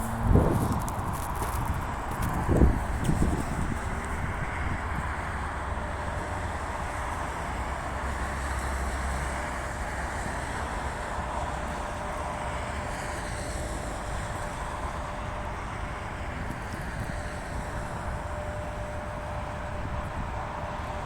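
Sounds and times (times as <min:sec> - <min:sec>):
faint locomotive whine: 0:00.0 - 0:21.0
freight train rumbling on track: 0:00.0 - 0:21.0.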